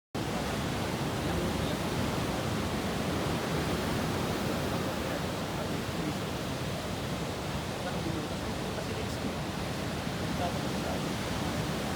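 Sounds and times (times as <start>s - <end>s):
ocean surf rushing: 0.2s - 11.9s.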